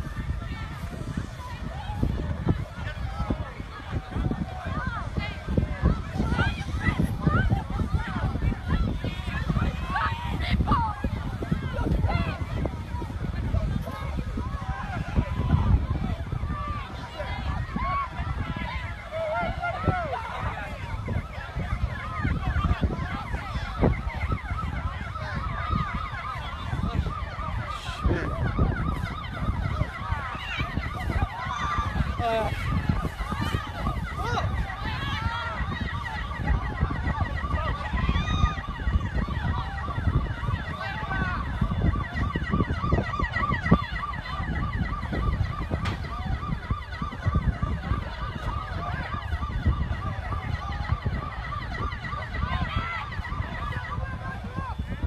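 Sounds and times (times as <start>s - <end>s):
emergency sirens yelping: 0.0s - 55.0s.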